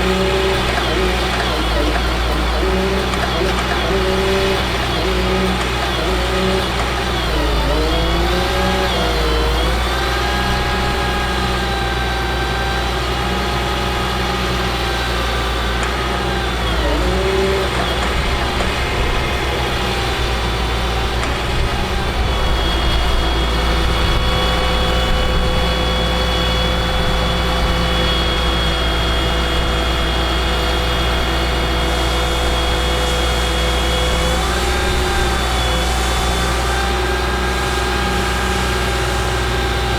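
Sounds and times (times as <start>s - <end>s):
diesel truck engine running: 0.0s - 39.9s
engine whine: 0.0s - 39.9s.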